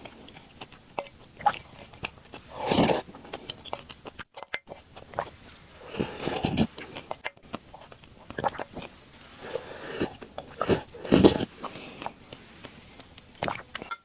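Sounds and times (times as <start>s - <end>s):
person biting and chewing: 0.0s - 14.0s.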